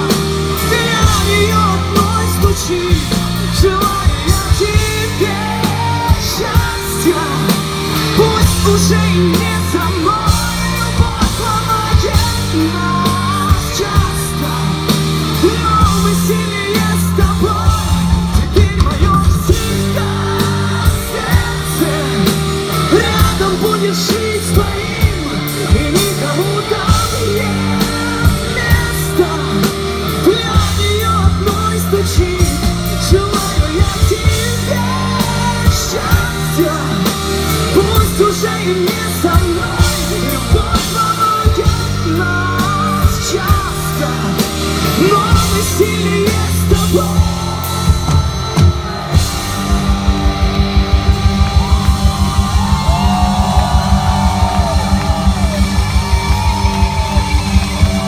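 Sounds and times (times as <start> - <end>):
bass guitar: 0.0 - 58.0
electric guitar: 0.0 - 58.0
person singing: 0.0 - 58.0
steady drum beat: 0.0 - 58.0.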